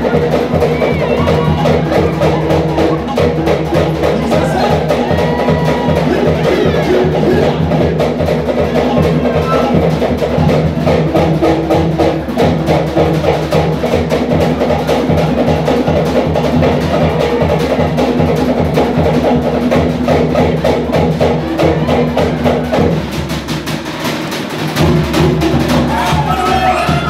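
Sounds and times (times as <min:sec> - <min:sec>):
deep drum beats: 0:00.0 - 0:27.0.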